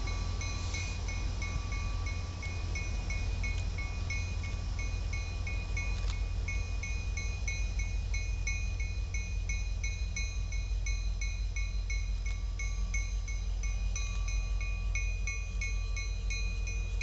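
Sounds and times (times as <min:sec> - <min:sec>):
low rumble: 0:00.0 - 0:17.0
railroad crossing bell dinging: 0:00.0 - 0:17.0.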